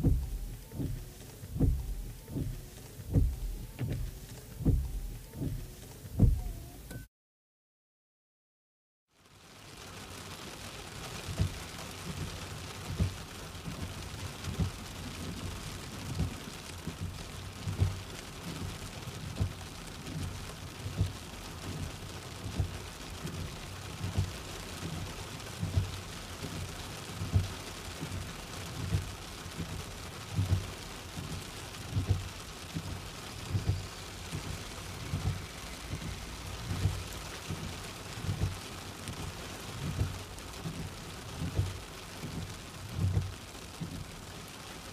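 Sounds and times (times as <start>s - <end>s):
windscreen wipers thumping: 0.0s - 6.9s, 11.1s - 44.9s.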